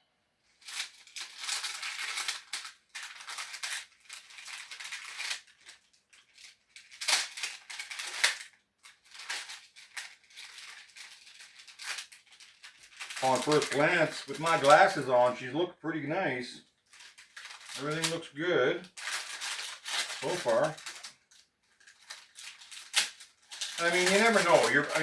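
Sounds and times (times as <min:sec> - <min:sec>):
packaging rustling and crinkling: 0:00.5 - 0:15.3, 0:16.7 - 0:18.2, 0:18.8 - 0:25.0.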